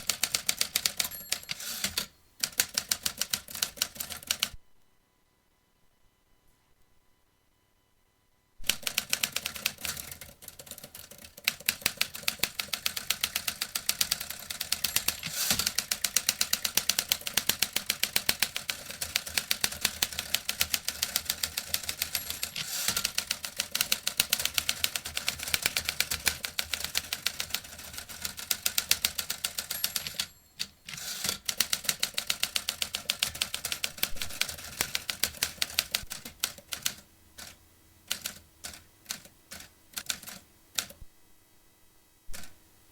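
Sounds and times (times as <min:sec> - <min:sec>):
typewriter keystrokes: 0:00.0 - 0:04.5, 0:08.6 - 0:41.0, 0:42.3 - 0:42.6.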